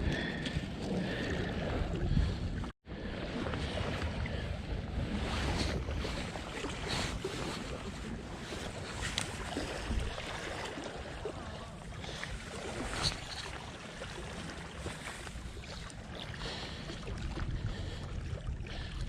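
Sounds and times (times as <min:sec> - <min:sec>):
wind buffeting microphone: 0:00.0 - 0:13.5, 0:16.4 - 0:19.0.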